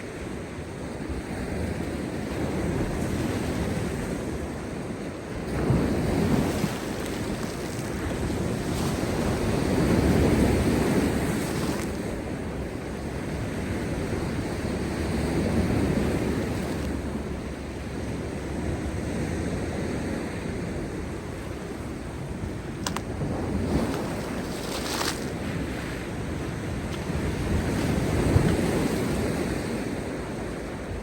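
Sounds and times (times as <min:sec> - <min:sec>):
waves crashing on rocks: 0:01.4 - 0:31.0.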